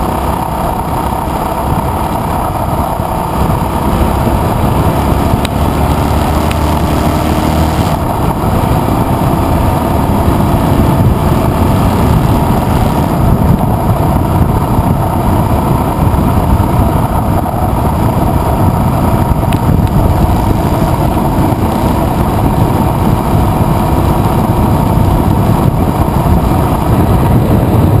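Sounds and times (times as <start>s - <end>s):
motorcycle engine running: 0.0s - 28.0s
wind rush on microphone: 0.0s - 28.0s.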